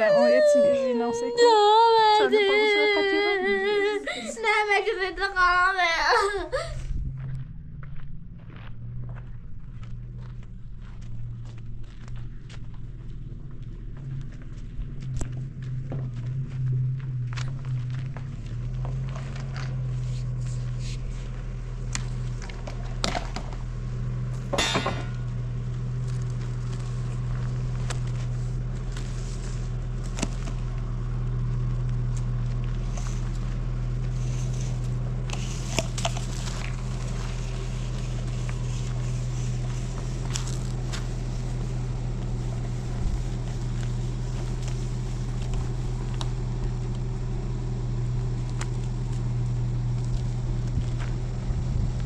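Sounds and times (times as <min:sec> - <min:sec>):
motor droning: 0:00.0 - 0:52.0.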